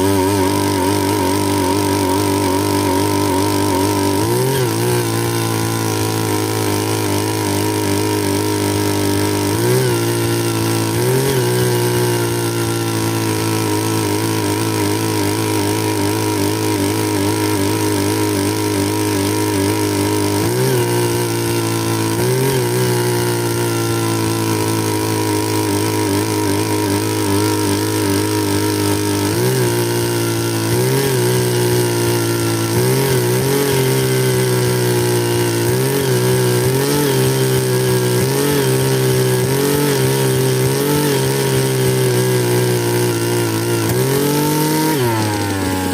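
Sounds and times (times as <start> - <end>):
engine running with surging speed: 0.0 - 45.9.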